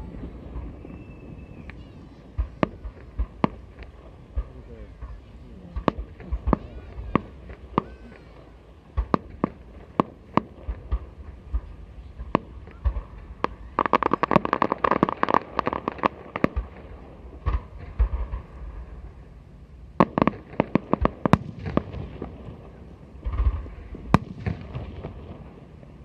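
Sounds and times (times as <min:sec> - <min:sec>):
fireworks bangs: 0:00.0 - 0:26.0
rapid fireworks crackle: 0:00.0 - 0:26.0.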